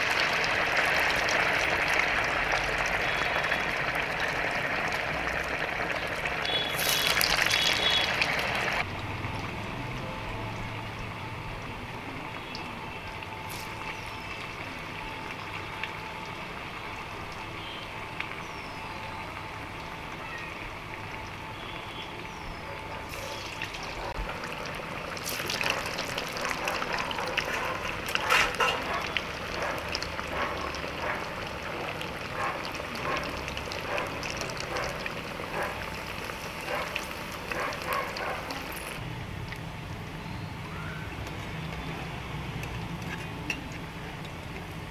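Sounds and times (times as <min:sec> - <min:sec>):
food deep-frying in oil: 0:00.0 - 0:44.9.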